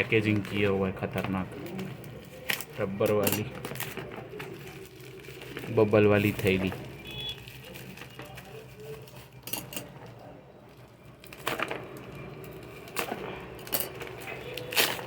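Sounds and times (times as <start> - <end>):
plastic crinkles and clicks: 0.0 - 15.0
plastic packaging rustling: 0.0 - 15.0.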